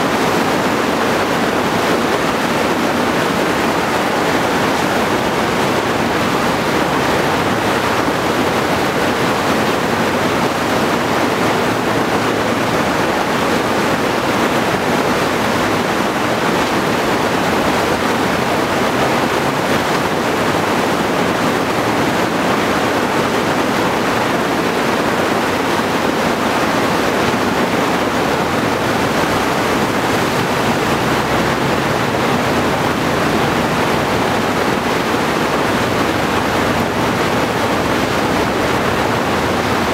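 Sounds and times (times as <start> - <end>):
rushing whitewater: 0.0 - 39.9.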